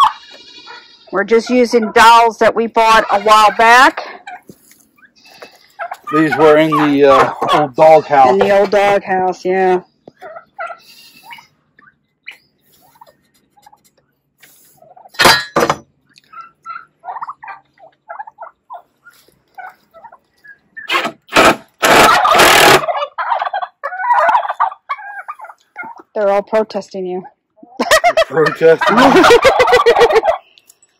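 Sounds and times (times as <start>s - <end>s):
turkeys gobbling: 0.0s - 15.4s, 16.0s - 26.4s, 27.2s - 30.7s.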